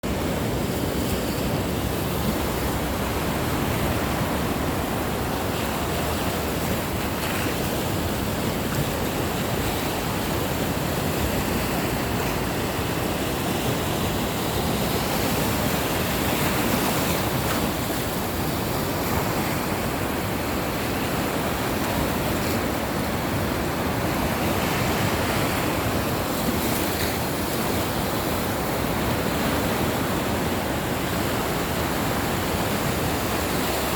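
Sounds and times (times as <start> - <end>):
sea waves washing on shore: 0.0 - 33.9.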